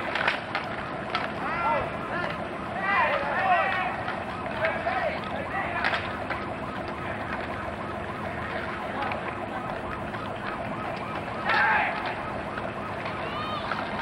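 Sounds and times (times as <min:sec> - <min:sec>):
distant siren yelping wail: 0:00.0 - 0:14.0.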